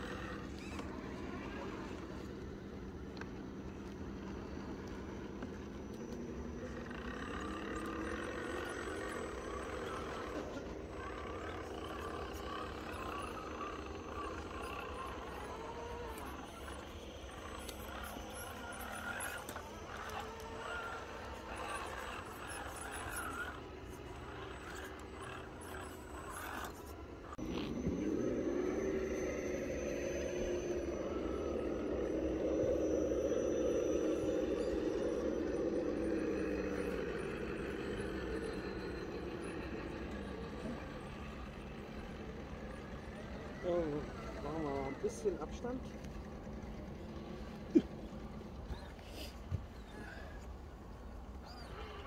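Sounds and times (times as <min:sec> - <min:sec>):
electric motor and gears whining: 0:00.0 - 0:52.0.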